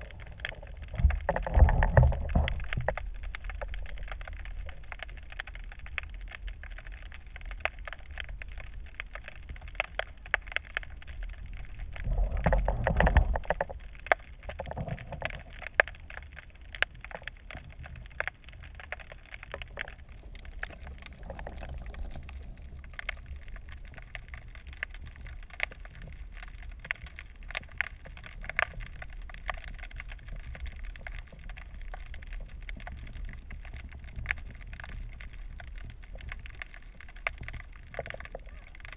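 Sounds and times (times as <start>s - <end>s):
clicks and crackles underwater: 0.0s - 38.9s
underwater low rumble: 0.0s - 38.9s.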